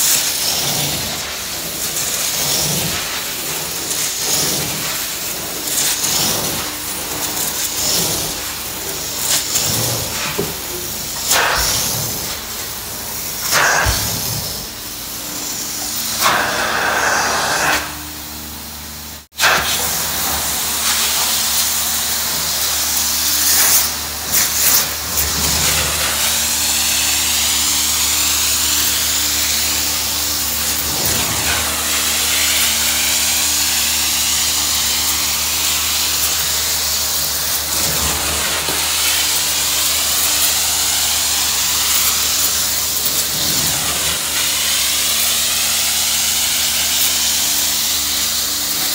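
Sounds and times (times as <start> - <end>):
carpet extraction wand hissing: 0.0 - 18.0, 19.4 - 48.9
vacuum system hum: 0.4 - 48.9.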